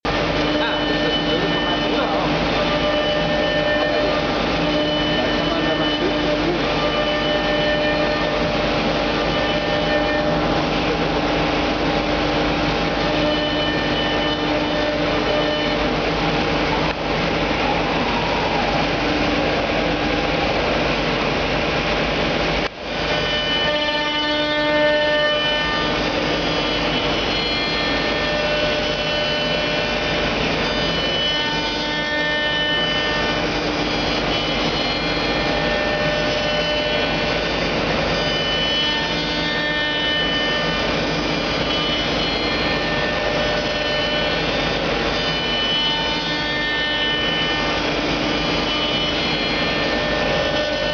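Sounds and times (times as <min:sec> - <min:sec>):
milling machine cutting with whine: 0:00.0 - 0:50.9.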